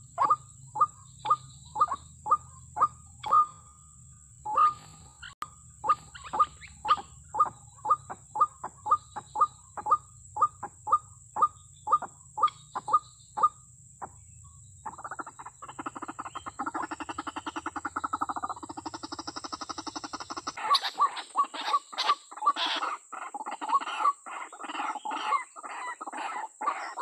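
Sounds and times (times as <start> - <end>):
waterhen calling: 0.0 - 3.7, 4.5 - 13.6, 14.9 - 27.0
fast rattling croak: 0.0 - 27.0.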